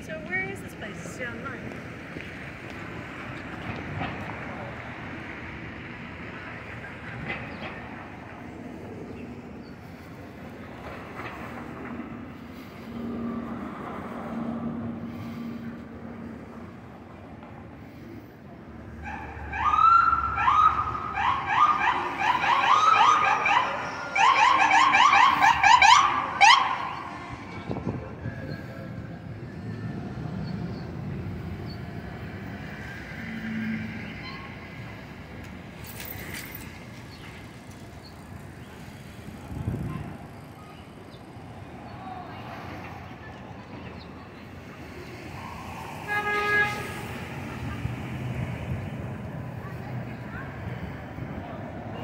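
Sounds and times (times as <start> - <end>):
traffic noise: 0.0 - 52.0.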